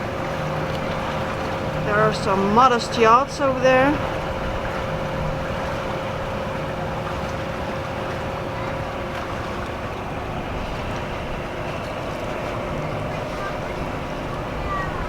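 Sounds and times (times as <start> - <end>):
boat engine running: 0.0 - 15.0
water noise: 0.0 - 15.0
wind: 0.0 - 15.0.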